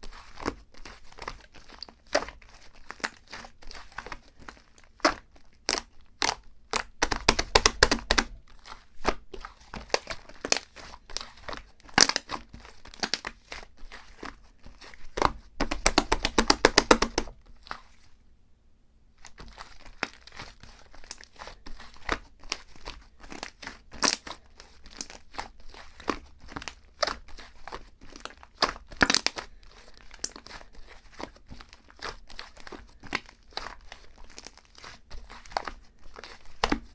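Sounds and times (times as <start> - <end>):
plastic and paper crinkling: 0.0 - 18.1, 19.2 - 36.9.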